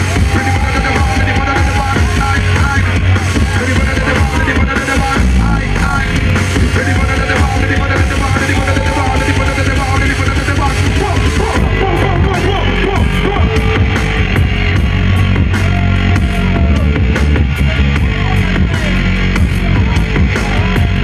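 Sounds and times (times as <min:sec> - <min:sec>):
heavy bass line: 0:00.0 - 0:21.0
live band music through speakers: 0:00.0 - 0:21.0.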